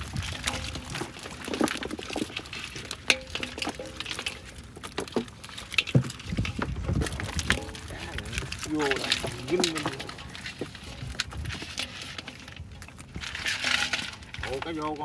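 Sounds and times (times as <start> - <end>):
small knocks: 0.0 - 15.0
water splashing: 0.0 - 15.0.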